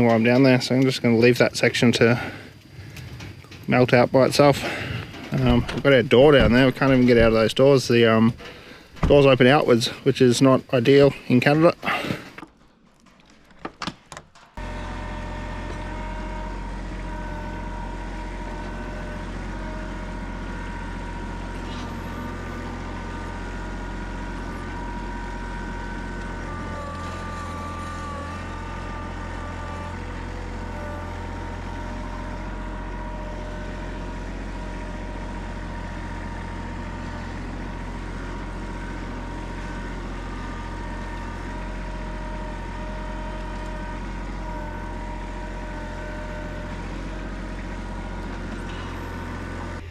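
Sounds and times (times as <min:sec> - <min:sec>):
engine whine: 0:00.0 - 0:12.5, 0:14.4 - 0:49.9
truck engine rumbling: 0:00.0 - 0:49.9.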